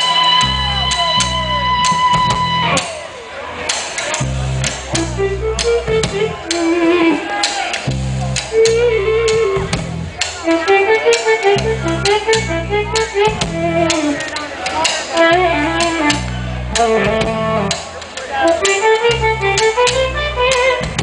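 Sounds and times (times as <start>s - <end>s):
electric guitar lead: 0.0s - 3.1s, 3.7s - 21.0s
blues-rock band playing: 0.0s - 21.0s.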